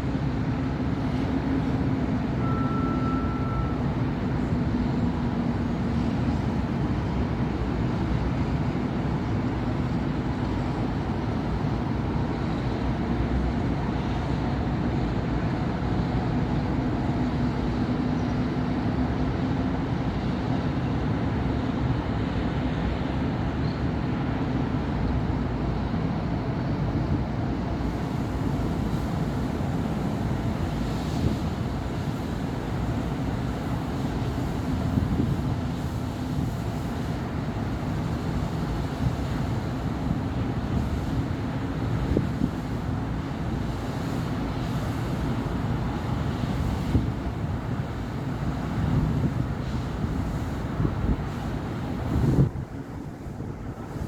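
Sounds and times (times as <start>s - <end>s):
city road traffic rumble: 0.0s - 54.0s.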